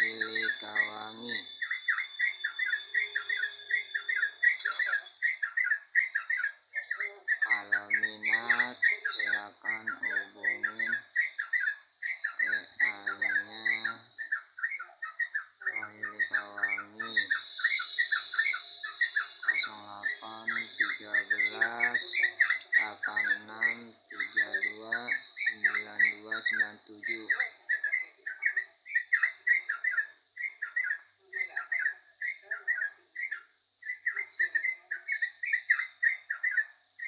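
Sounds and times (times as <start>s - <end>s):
bird chirping rapidly: 0.0s - 37.0s.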